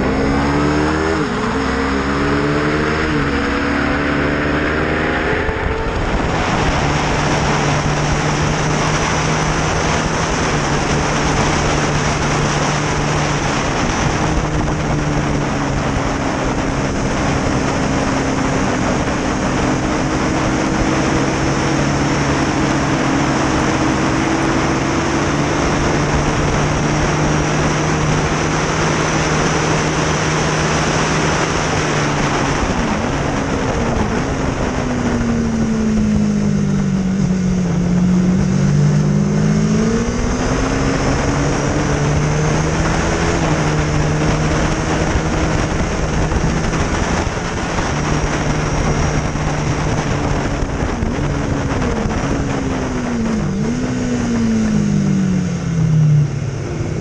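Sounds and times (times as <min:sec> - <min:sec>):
motorcycle engine at high revs: 0:00.0 - 0:57.0
wind rush: 0:00.0 - 0:57.0.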